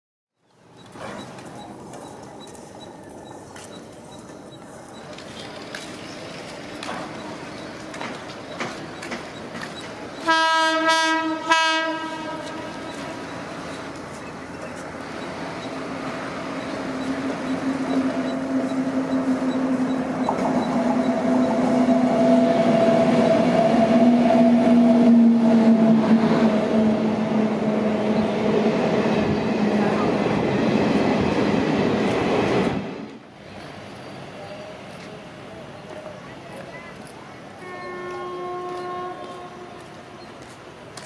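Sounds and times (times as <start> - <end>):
train coaches rumbling past: 0.5 - 41.0
electric locomotive hum: 0.6 - 41.0.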